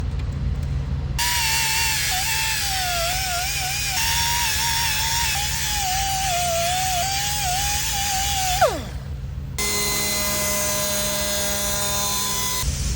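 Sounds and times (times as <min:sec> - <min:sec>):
power tool whining: 0:01.2 - 0:12.7.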